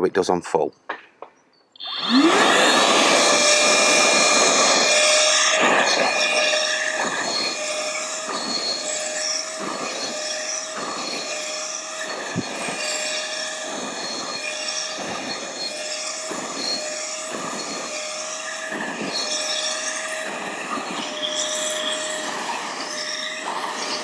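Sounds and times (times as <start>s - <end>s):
vacuum motor whine: 1.8s - 24.0s.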